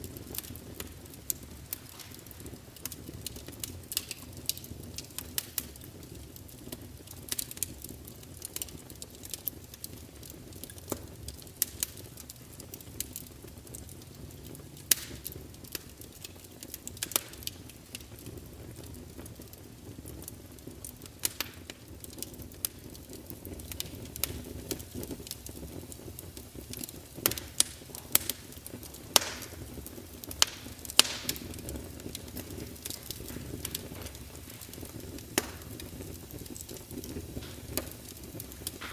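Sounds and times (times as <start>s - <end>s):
low rush of flames: 0.0s - 38.9s
wood fire crackling: 0.0s - 38.9s.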